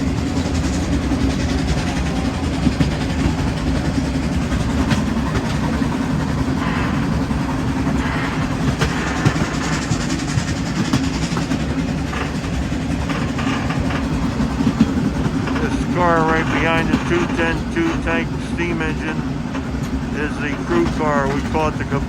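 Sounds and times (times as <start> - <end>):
steam train running uphill: 0.0 - 22.0
wheel-on-rail clicks: 0.2 - 18.0.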